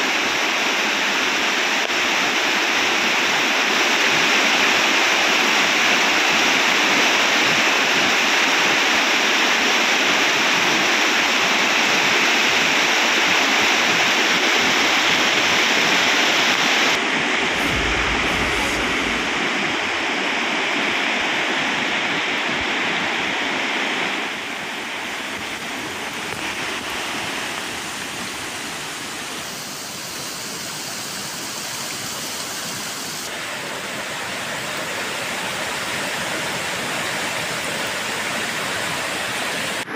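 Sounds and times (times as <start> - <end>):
fast-moving water rushing: 0.0 - 39.9.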